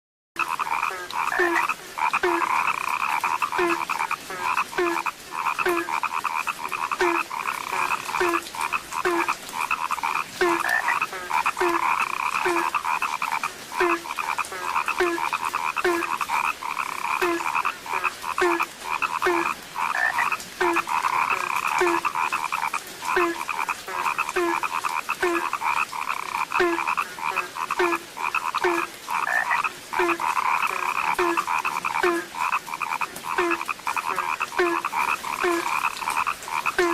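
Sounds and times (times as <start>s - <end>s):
deep frog call: 0.4s - 36.9s
frogs croaking chorus: 0.4s - 36.9s.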